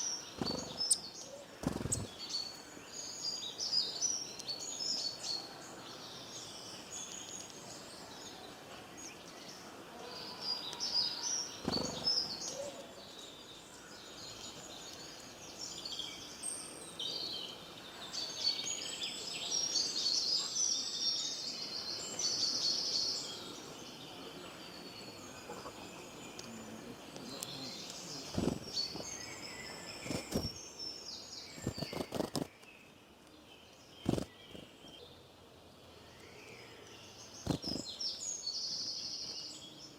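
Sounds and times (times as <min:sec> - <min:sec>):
background hiss: 0:00.0 - 0:39.9
small birds chirping: 0:00.0 - 0:39.9.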